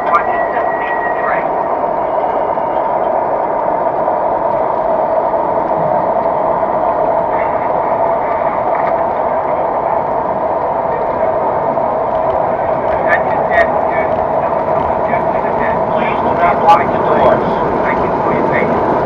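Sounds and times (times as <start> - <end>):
model train whirring rumble: 0.0 - 19.0
train running sound effects: 0.0 - 19.0.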